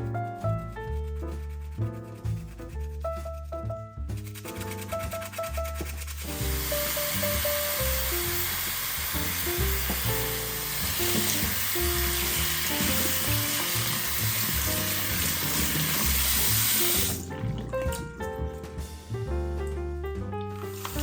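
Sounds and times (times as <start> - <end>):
background music: 0.0 - 21.0
water running from a tap: 3.2 - 21.0.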